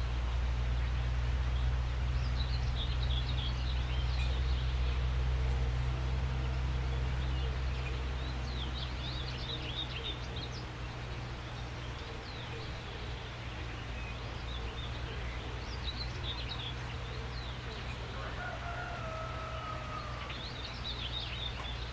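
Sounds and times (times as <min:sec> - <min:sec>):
low background rumble: 0:00.0 - 0:21.9
small birds chirping: 0:00.0 - 0:21.9.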